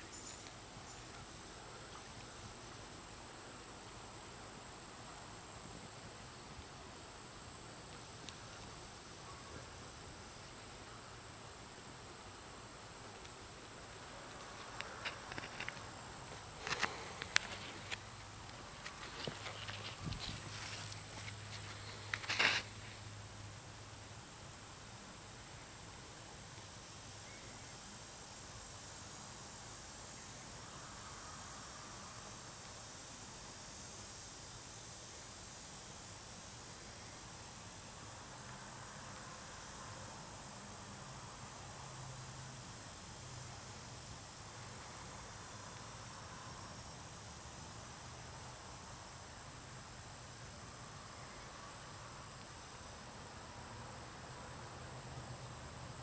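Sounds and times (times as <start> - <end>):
faint hiss: 0.0 - 56.0
insects trilling: 0.0 - 56.0.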